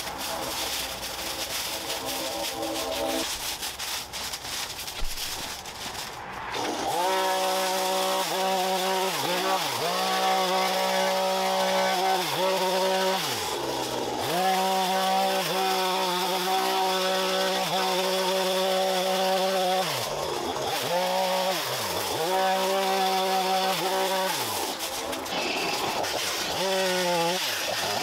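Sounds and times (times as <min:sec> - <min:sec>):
chainsaw cutting bamboo: 0:00.0 - 0:28.0.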